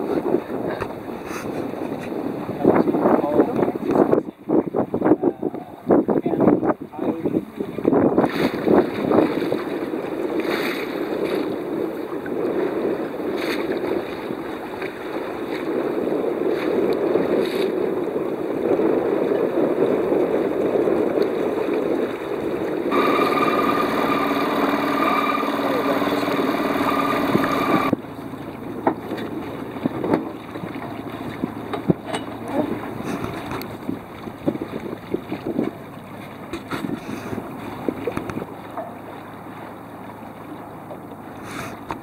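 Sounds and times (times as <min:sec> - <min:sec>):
wind on microphone: 0:00.0 - 0:39.1
water washing along hull: 0:00.0 - 0:42.0.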